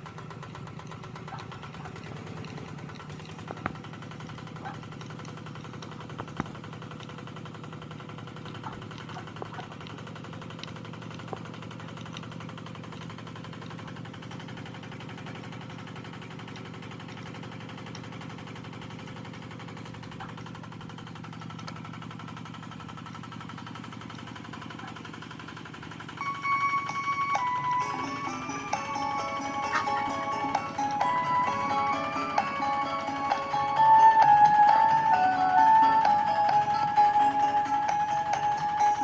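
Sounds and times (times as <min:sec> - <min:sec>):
small generator running: 0:00.0 - 0:39.0.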